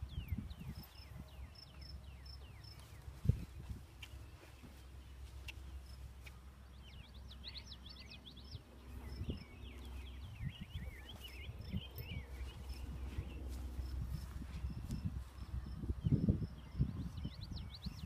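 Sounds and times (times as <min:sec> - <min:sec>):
small bird chirping: 0:00.0 - 0:18.0
steady low rumble: 0:00.0 - 0:18.0.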